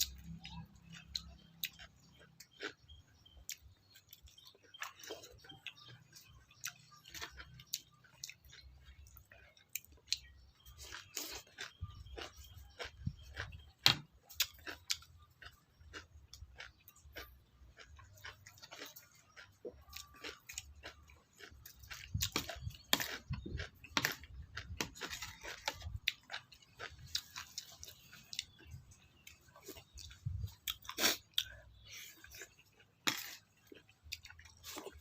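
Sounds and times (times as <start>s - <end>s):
person chewing crunchy food: 0.0s - 35.0s.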